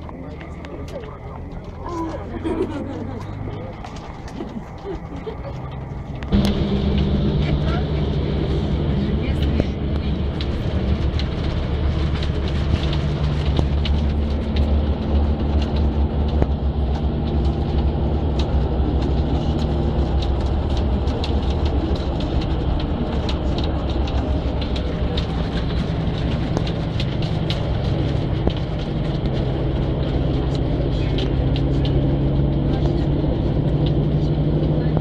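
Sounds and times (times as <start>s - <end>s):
bus engine running: 0.0s - 35.0s
hail and rain on windows: 3.4s - 35.0s.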